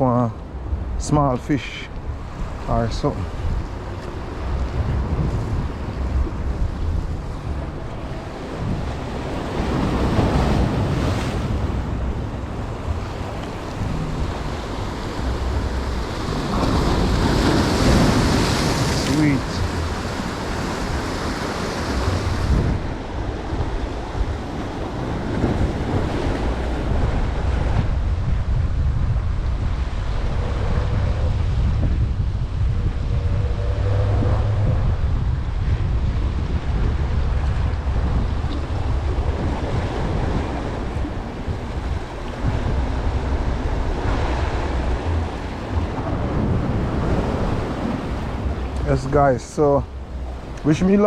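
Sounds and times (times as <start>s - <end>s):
waves washing: 0.0s - 51.0s
wind buffeting microphone: 0.0s - 51.0s.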